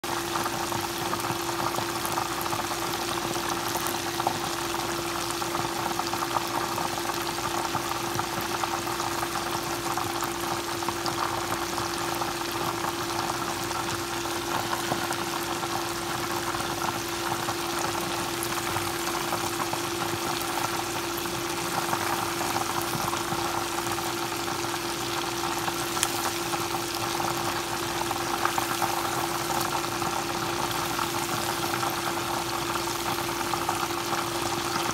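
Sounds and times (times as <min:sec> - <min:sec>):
chicken deep-frying in oil: 0:00.0 - 0:34.9.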